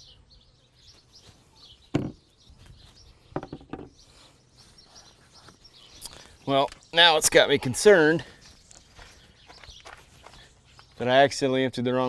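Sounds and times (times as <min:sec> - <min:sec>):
faint birdsong: 0:00.0 - 0:12.0.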